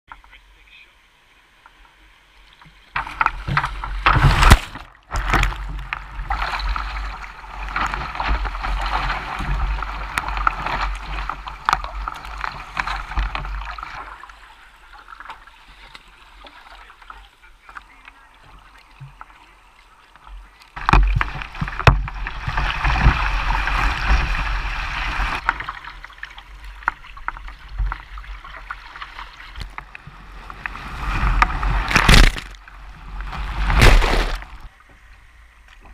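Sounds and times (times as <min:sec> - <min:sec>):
water splashing against kayak: 0:01.4 - 0:35.9.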